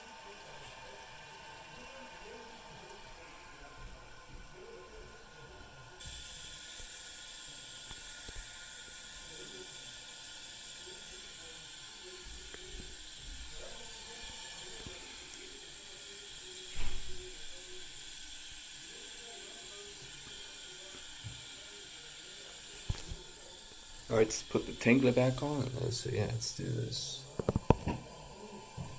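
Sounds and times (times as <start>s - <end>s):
toilet tank refilling hiss: 0.0s - 28.9s.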